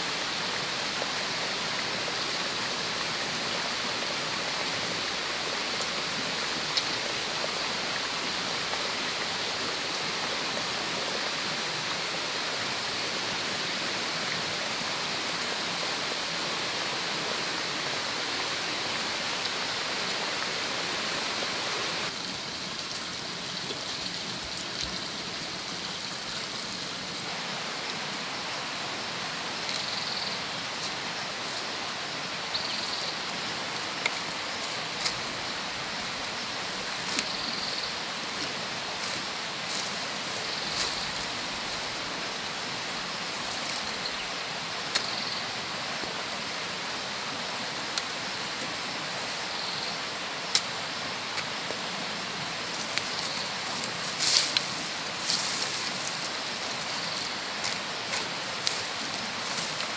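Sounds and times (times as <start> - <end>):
rushing outdoor ambient noise: 0.0 - 59.9.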